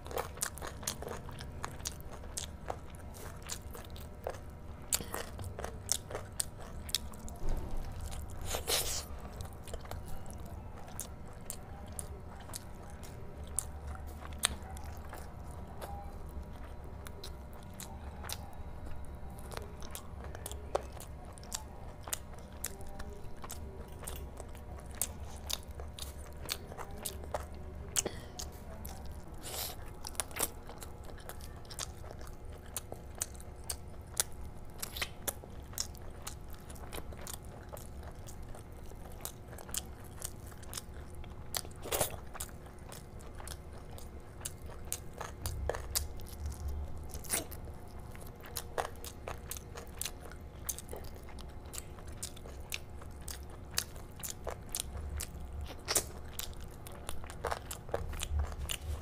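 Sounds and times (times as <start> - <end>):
chewing meat: 0.0 - 59.0.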